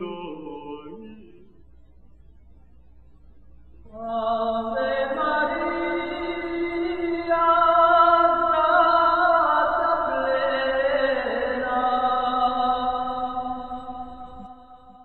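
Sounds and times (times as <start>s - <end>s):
slow sung chant: 0.0s - 2.2s, 3.8s - 15.0s.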